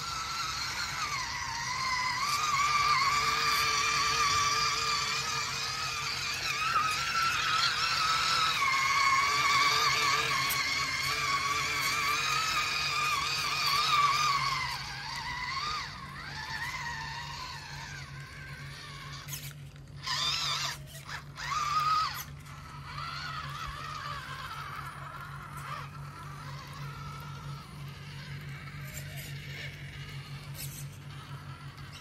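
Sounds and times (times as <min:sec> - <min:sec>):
rc truck motor whine: 0:00.0 - 0:32.0.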